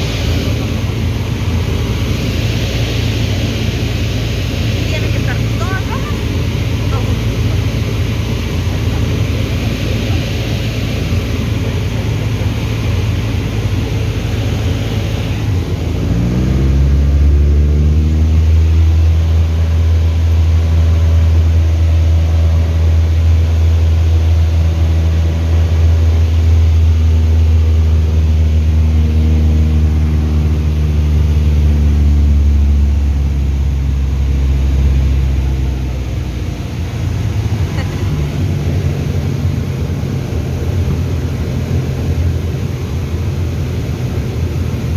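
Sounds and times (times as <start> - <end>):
light aircraft engine running: 0.0 - 44.9.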